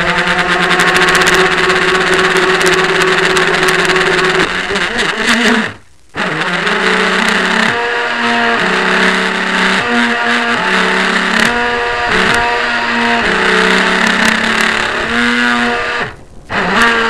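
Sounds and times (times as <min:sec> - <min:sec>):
model boat motor running flat out: 0:00.0 - 0:17.0.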